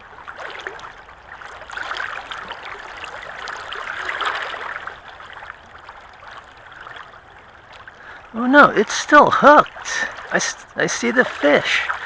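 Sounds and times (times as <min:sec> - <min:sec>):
stream water rippling over rocks: 0:00.0 - 0:12.0.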